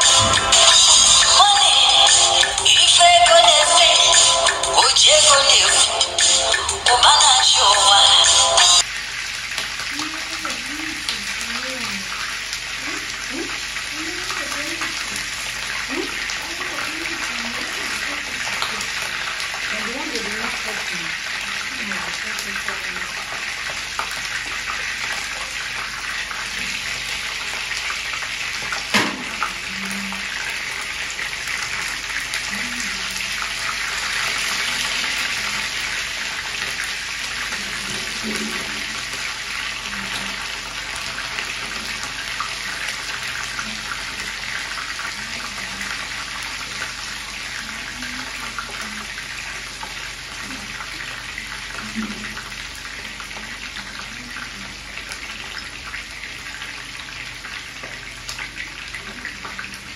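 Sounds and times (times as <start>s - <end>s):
chicken sizzling in hot oil: 8.0s - 59.9s.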